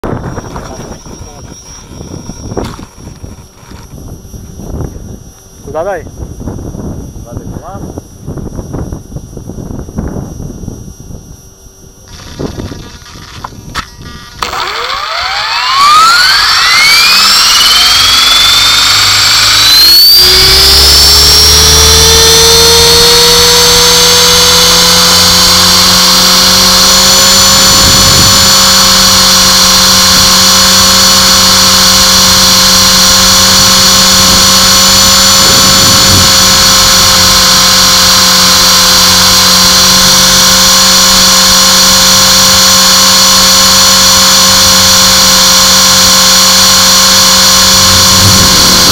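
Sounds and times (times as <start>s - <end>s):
rc helicopter motor whine: 0.0s - 48.9s.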